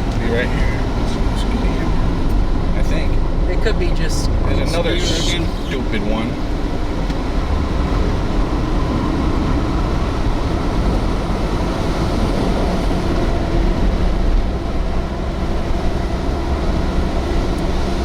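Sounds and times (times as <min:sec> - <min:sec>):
road and engine rumble: 0:00.0 - 0:18.0
wind buffeting car: 0:00.0 - 0:18.0.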